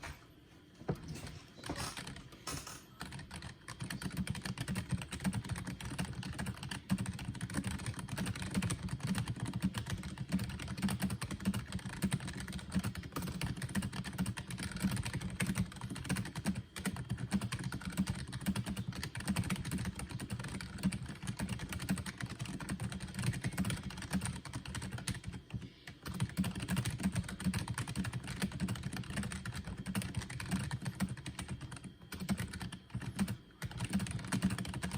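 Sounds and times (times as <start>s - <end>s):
fast keyboard typing: 1.0s - 34.9s.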